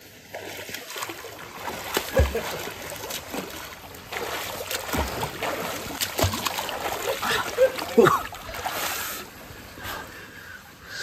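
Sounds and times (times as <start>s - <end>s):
water splashing and sloshing: 0.0s - 10.9s.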